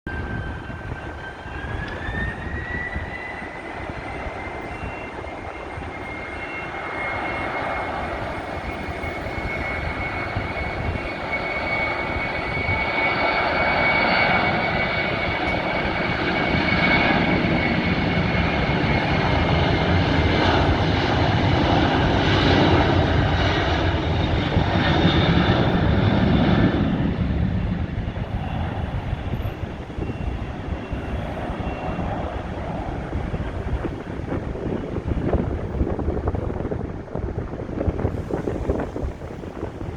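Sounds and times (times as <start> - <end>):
jet engine whine: 0.0 - 39.9
jet engine roar: 0.1 - 39.9.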